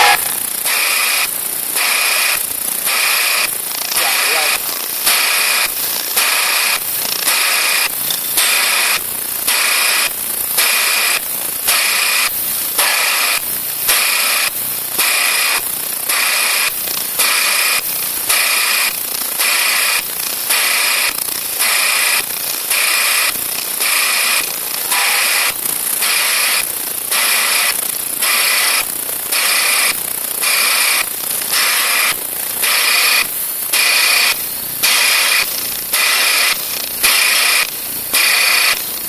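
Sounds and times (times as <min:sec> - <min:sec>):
vibrating sieve machine whine: 0:00.0 - 0:39.0.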